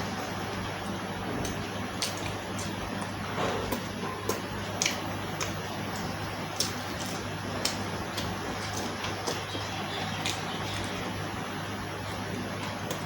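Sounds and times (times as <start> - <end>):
chewing crunchy fried food: 0.0 - 13.0.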